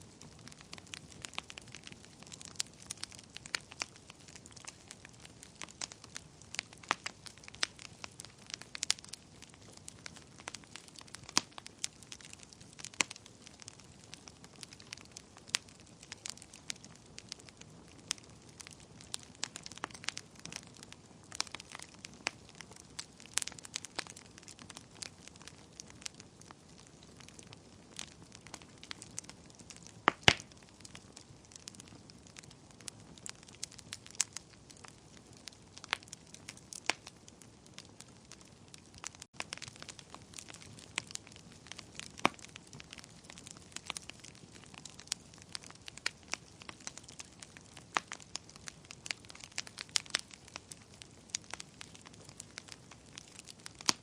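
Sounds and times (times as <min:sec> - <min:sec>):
faint steady hiss: 0:00.0 - 0:54.0
wood fire crackling and popping: 0:00.0 - 0:54.0.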